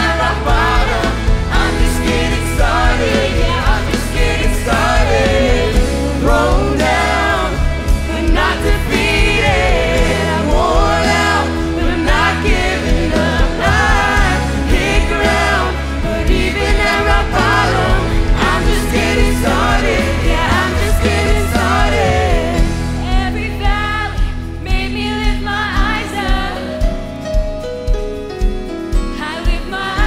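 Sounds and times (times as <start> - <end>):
women singing: 0.0 - 27.1, 29.2 - 30.0
band playing worship song: 0.0 - 30.0.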